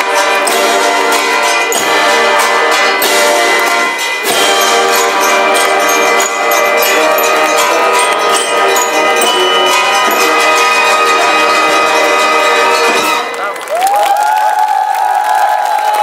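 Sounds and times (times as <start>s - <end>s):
military brass band playing: 0.0s - 13.4s.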